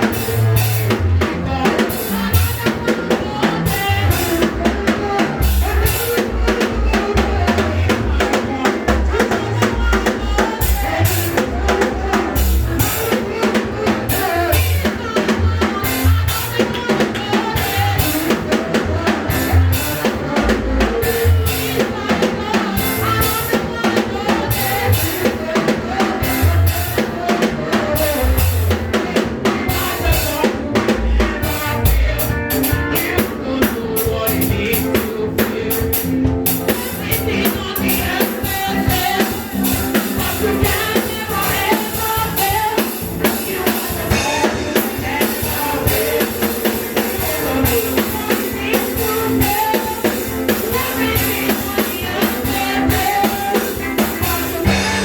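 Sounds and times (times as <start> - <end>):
drum kit beat: 0.0 - 55.0
other instruments: 0.0 - 55.0.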